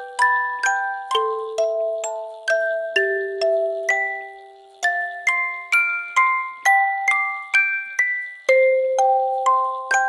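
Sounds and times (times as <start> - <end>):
bell-like melody: 0.0 - 10.0.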